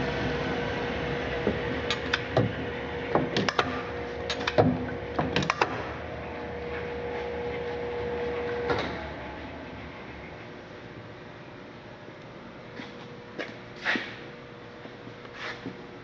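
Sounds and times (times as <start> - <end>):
electric hum: 0.0 - 16.0.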